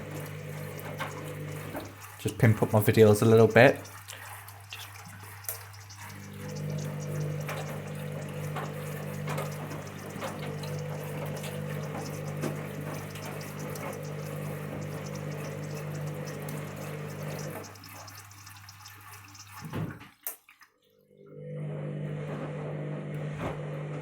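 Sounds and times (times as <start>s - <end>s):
water rushing in washing machine: 0.0s - 24.0s.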